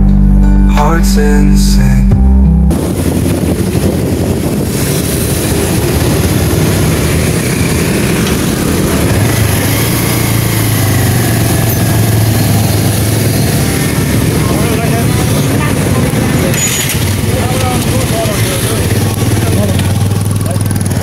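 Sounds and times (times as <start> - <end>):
road and wind noise: 1.2 - 21.0.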